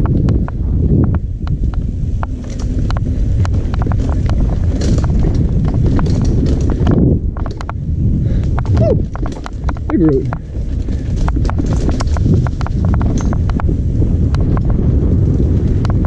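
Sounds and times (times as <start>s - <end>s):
bike clicking and rattling: 0.0s - 16.0s
wind rumble on microphone: 0.0s - 16.0s.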